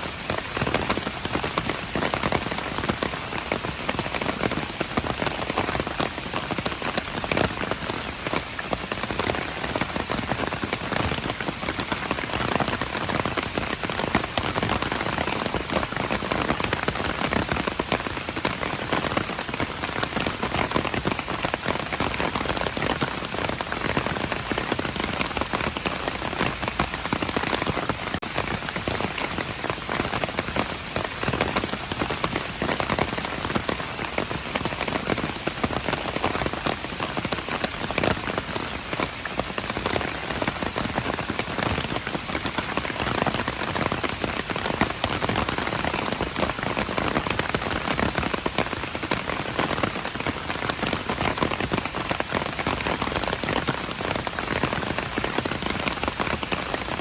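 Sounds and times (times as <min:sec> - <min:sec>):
rain pattering on hard surfaces: 0:00.0 - 0:57.0.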